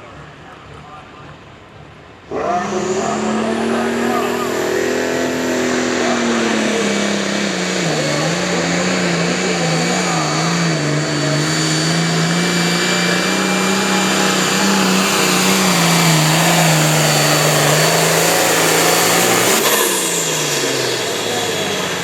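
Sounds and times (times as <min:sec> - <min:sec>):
diesel tractor engine revving hard: 0:01.7 - 0:22.0.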